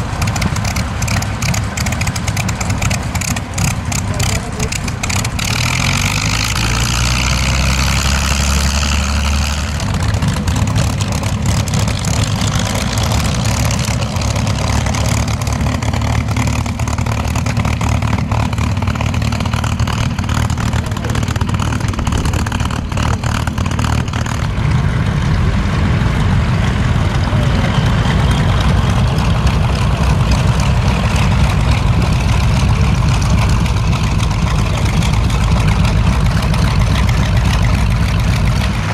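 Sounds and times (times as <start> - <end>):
piston aircraft engine running: 0.0 - 38.9.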